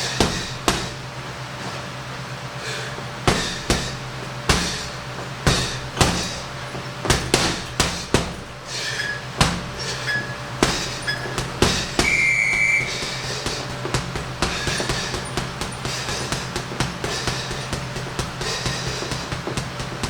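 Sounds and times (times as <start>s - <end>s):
punches thudding on heavy bag: 0.0s - 1.1s, 3.2s - 20.0s
steady low hum: 0.0s - 20.0s.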